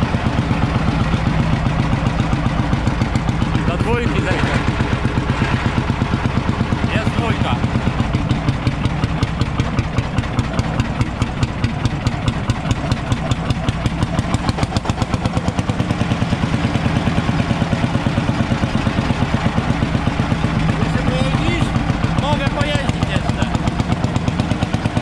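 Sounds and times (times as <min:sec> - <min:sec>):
tractor engine exhaust pulses: 0:00.0 - 0:25.0.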